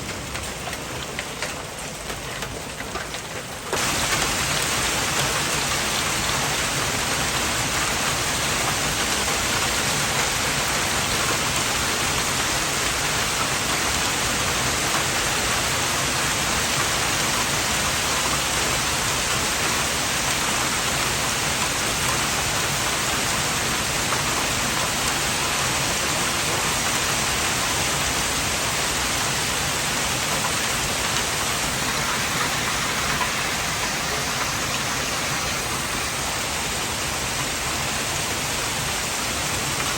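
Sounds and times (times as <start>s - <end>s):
hail and rain falling hard: 0.0s - 39.9s.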